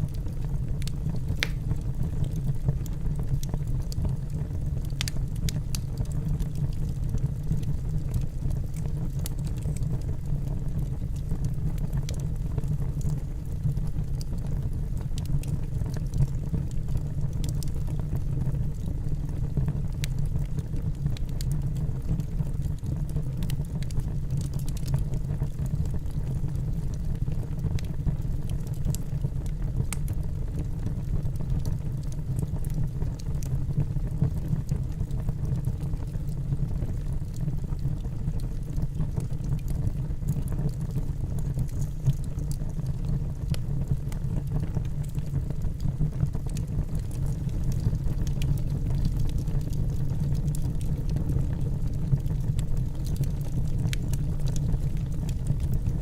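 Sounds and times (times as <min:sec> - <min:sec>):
burning logs crackling and popping: 0:00.0 - 0:56.0
low roar of flames: 0:00.0 - 0:56.0.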